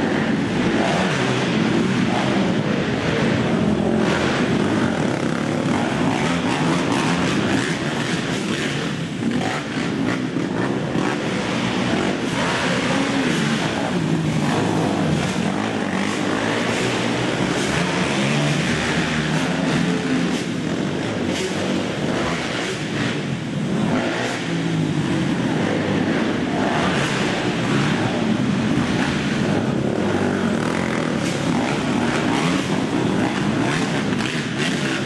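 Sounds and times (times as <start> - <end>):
racing atv engines: 0.0 - 35.0.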